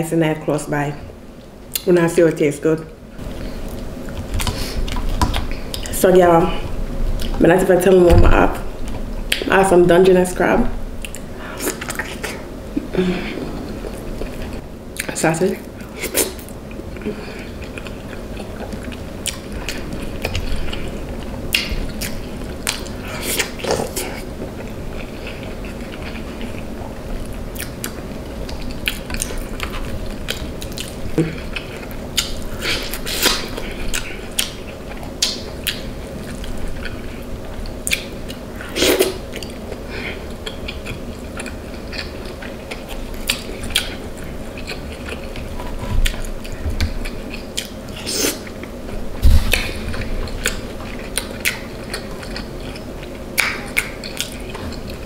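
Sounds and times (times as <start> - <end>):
faint steady hum: 0.0 - 55.0
person chewing food: 3.2 - 6.0, 7.1 - 7.4, 11.0 - 55.0.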